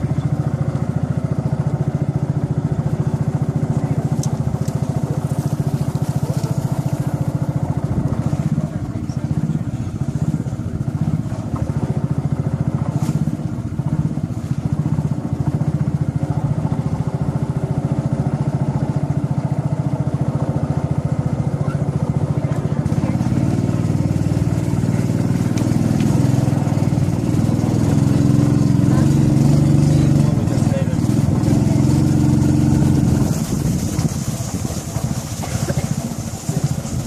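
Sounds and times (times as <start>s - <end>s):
small boat motor putter: 0.0s - 37.0s.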